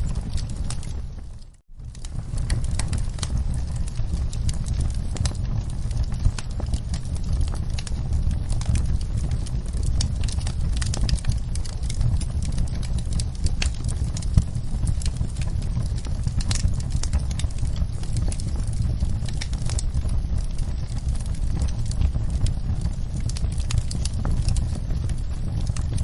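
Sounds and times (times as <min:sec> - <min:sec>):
fire crackling and popping: 0:00.0 - 0:26.0
low steady rumble: 0:00.0 - 0:26.0.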